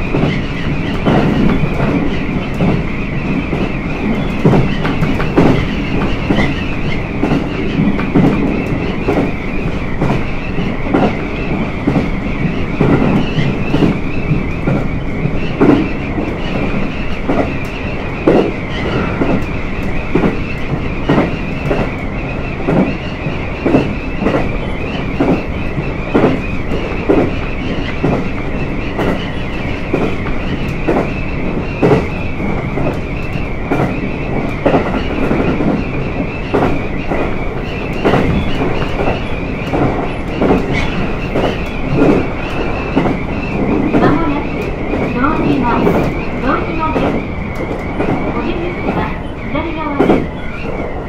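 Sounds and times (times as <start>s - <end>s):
railcar diesel drone: 0.0s - 51.0s
wheels clicking over rail joints: 0.0s - 51.0s
wind noise: 0.0s - 51.0s.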